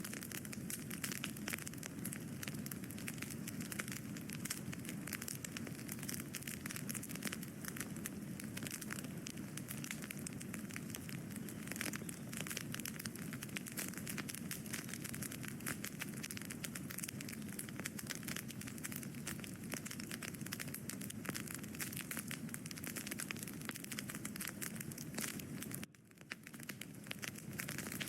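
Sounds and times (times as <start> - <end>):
burning wood crackling: 0.0 - 28.0
rush of flames: 0.0 - 28.0.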